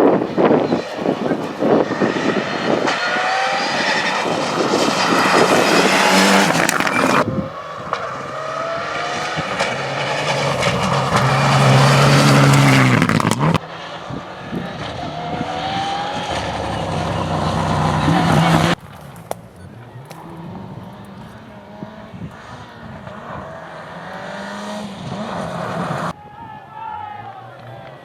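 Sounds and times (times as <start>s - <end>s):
rally car engines revving: 0.0s - 26.2s.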